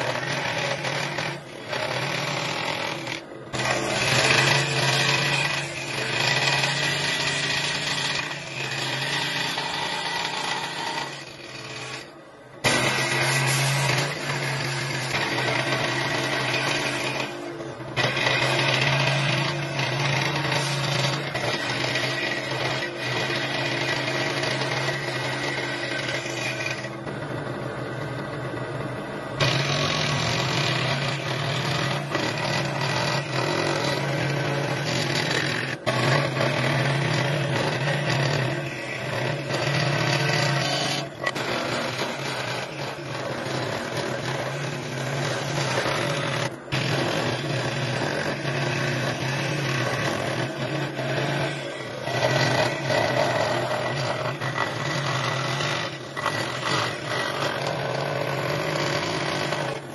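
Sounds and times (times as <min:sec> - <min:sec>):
woodworking power tool running: 0:00.0 - 0:59.9.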